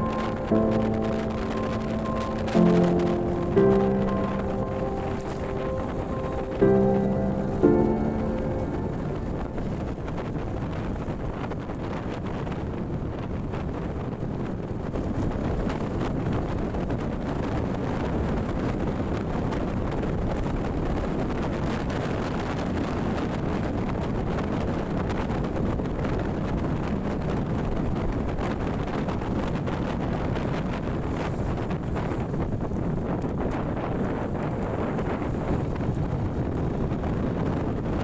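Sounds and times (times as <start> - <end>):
wind rumble on microphone: 0.0 - 38.0.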